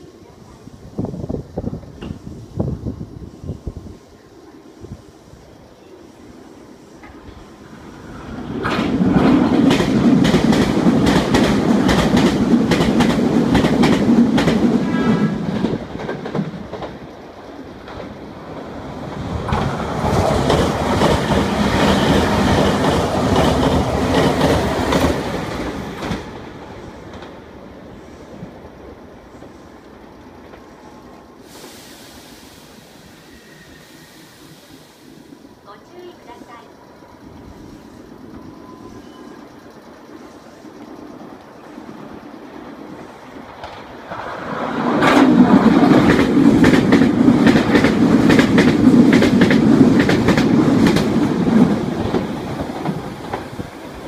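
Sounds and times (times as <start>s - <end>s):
trains passing with clattering wheels: 0.0s - 54.0s.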